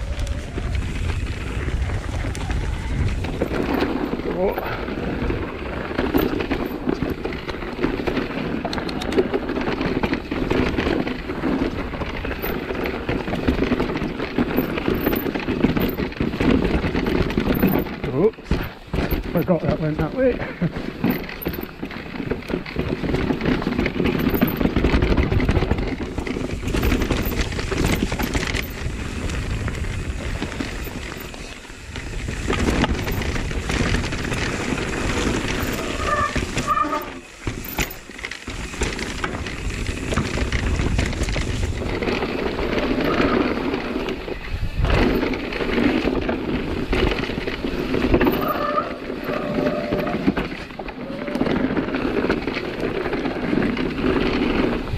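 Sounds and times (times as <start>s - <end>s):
bike rattling over bumps: 0.0s - 54.9s
bike tyres rolling over dirt: 0.0s - 54.9s.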